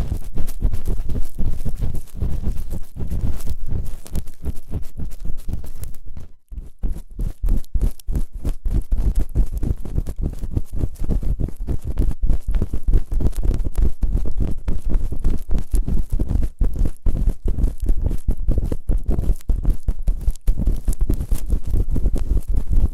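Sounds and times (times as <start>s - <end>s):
scraping and rubbing on microphone: 0.0s - 22.9s.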